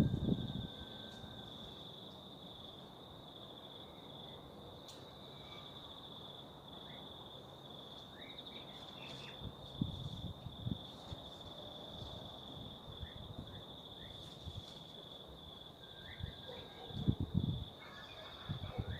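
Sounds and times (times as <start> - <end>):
high insect trill: 0.0 - 18.9.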